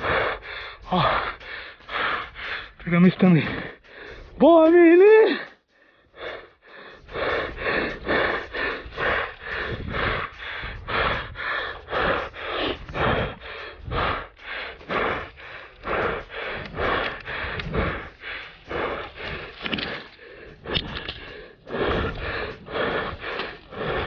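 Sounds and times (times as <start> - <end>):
man breathing heavily: 0.0 - 24.0.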